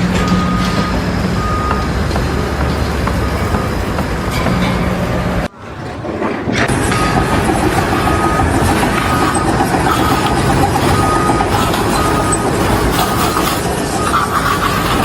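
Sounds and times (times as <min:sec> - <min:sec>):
mechanical rumbling and clatter: 0:00.0 - 0:15.0.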